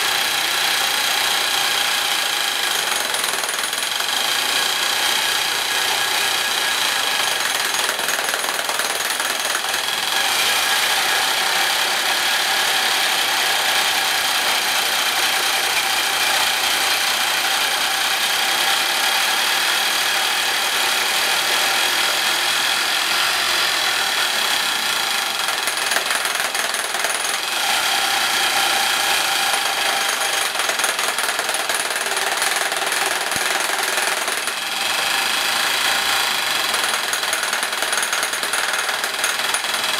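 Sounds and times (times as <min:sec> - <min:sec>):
rock drill hammering: 0:00.0 - 0:39.9.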